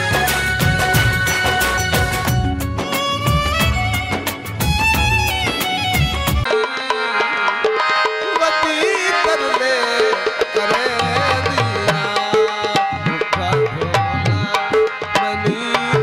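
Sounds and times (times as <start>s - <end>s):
harmonium melody: 0.0s - 16.0s
recorded song: 0.0s - 16.0s
tabla: 0.0s - 16.0s.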